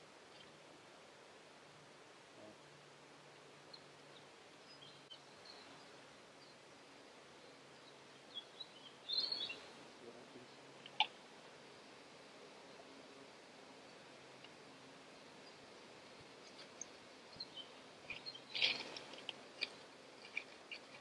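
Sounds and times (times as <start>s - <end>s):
small birds chirping: 0.2s - 0.7s, 3.2s - 21.0s.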